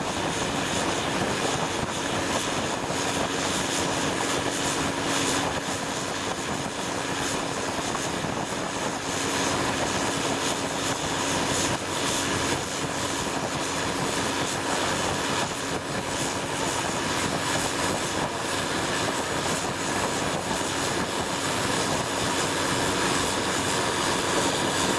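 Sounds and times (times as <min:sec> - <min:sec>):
boat engine droning: 0:00.0 - 0:24.9.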